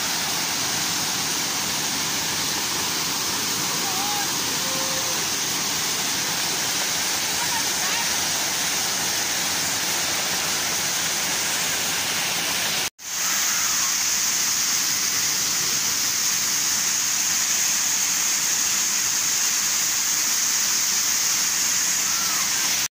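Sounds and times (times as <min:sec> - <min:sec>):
waterfall splashing over rocks: 0:00.0 - 0:22.9.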